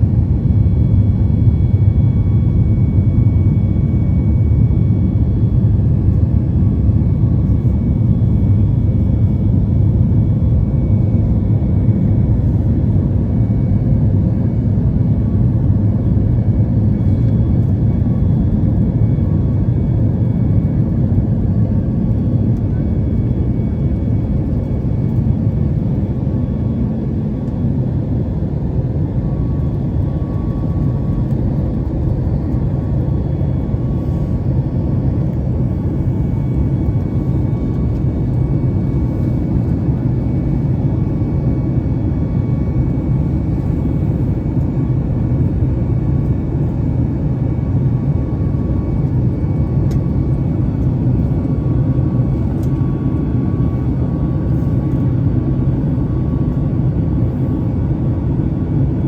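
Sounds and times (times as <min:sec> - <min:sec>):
faint steady whining tones: 0:00.0 - 0:59.0
jet engine cabin roar: 0:00.0 - 0:59.0.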